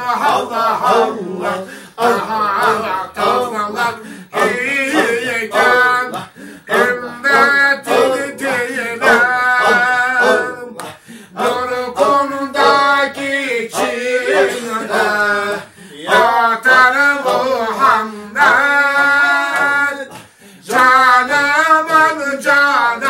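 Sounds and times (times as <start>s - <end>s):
man singing unaccompanied: 0.0s - 23.0s.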